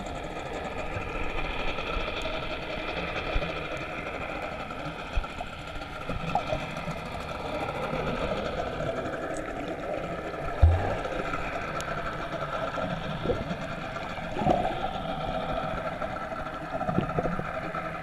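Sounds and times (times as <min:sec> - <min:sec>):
boat engine humming underwater: 0:00.0 - 0:18.0.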